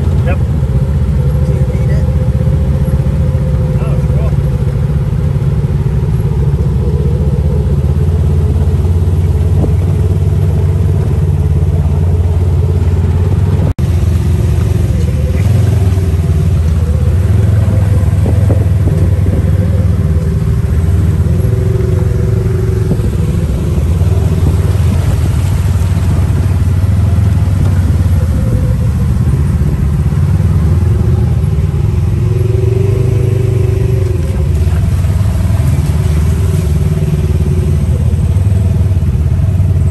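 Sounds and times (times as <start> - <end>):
buggy engine running: 0.0 - 39.9.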